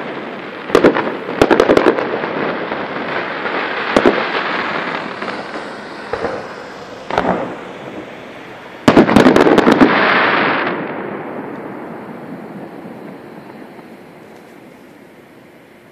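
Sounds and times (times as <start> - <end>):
firework shell bursts: 0.0 - 15.1
firework bangs: 0.0 - 15.9
firework fountain sparks rushing: 0.0 - 15.9
loud rush of noise: 0.0 - 15.9.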